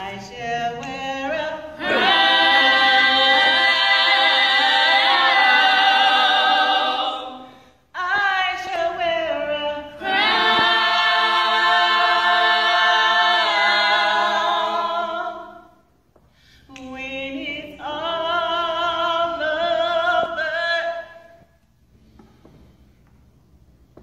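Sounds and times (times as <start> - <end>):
group singing a cappella: 0.0 - 15.9, 16.8 - 21.2.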